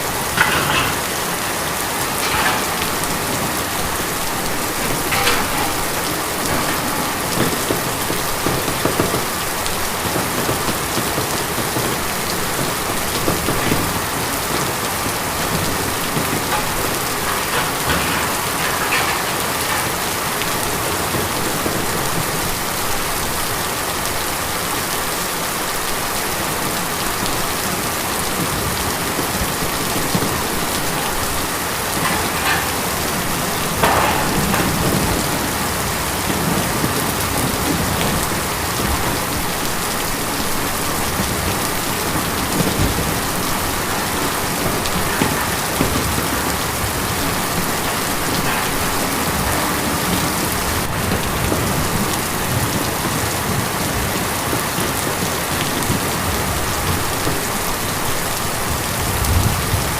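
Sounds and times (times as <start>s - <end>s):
loud single raindrops: 0.0s - 59.9s
rain pattering on tin: 0.0s - 59.9s.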